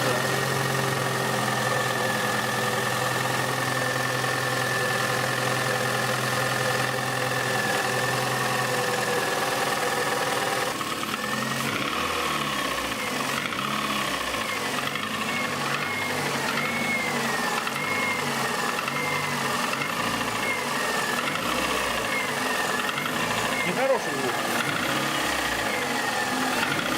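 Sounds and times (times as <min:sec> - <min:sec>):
car engine running with a knock: 0:00.0 - 0:26.9.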